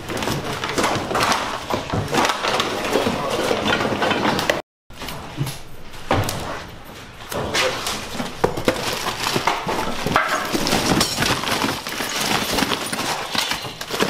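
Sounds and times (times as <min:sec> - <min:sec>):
junk clattering into bins: 0:00.0 - 0:14.0.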